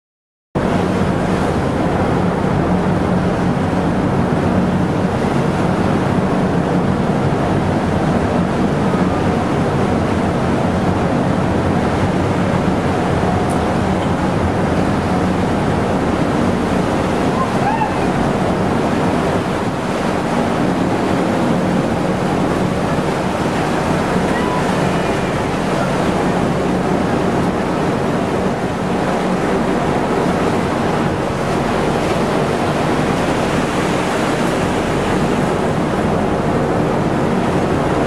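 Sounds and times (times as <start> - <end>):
waves: 0.6 - 38.0
wind: 0.6 - 38.0.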